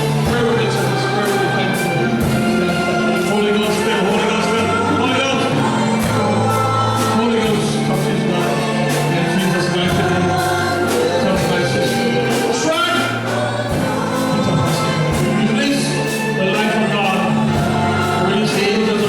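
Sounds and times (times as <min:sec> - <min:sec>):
choir singing gospel music: 0:00.0 - 0:19.0.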